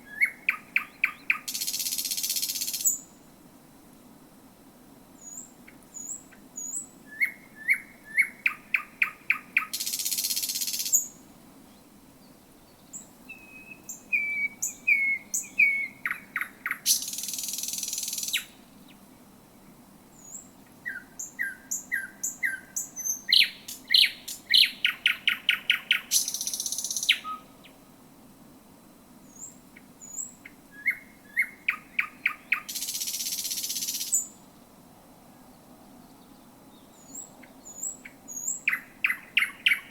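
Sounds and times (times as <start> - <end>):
nightingale singing: 0.0 - 3.2, 5.2 - 19.0, 20.1 - 27.8, 29.2 - 34.6, 36.0 - 39.9.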